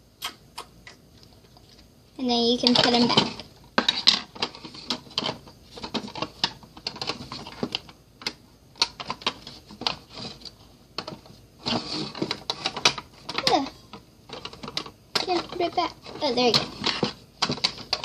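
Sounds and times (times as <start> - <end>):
plastic toy shelves clicking: 2.6 - 18.0.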